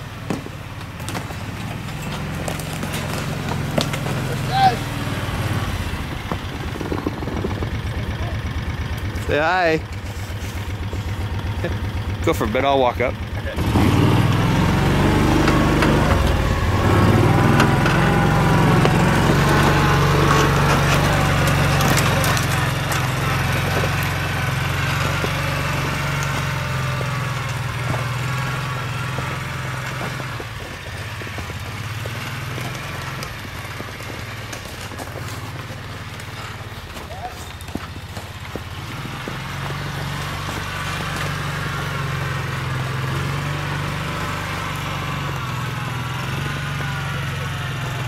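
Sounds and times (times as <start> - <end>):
utility vehicle engine driving off: 0.0 - 48.0.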